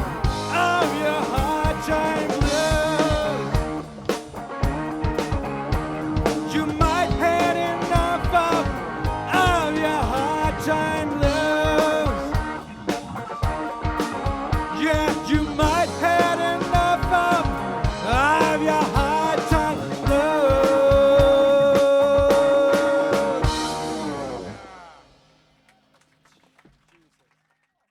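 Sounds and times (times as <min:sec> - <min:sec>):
blues lead guitar bending notes: 0:00.0 - 0:25.2
drums: 0:00.0 - 0:27.0.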